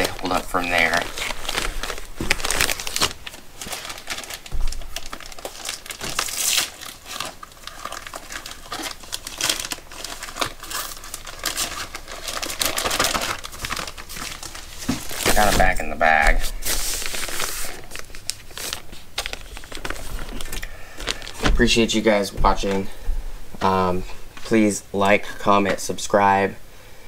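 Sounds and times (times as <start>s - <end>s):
plastic bag crinkling: 0.0s - 24.5s.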